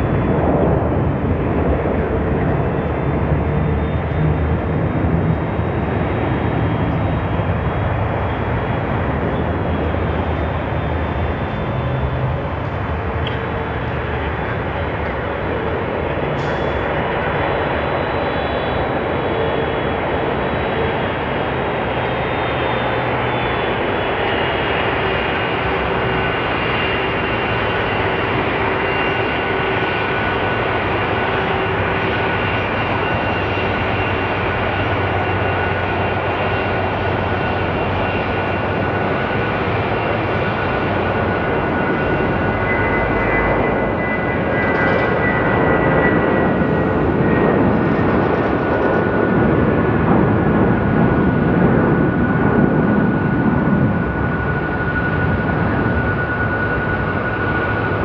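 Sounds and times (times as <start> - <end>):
jet engines taxiing: 0.0 - 58.0.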